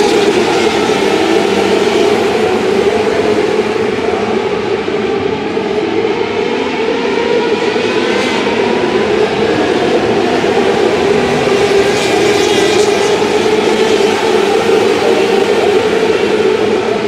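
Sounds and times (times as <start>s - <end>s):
engine whines of passing cars: 0.0s - 17.0s
racing car engines drone: 0.0s - 17.0s.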